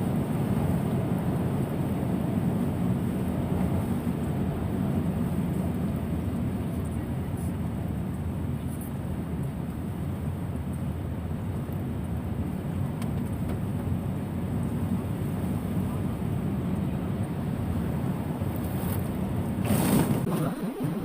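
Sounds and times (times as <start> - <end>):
car tyres on wet road: 0.0 - 21.0.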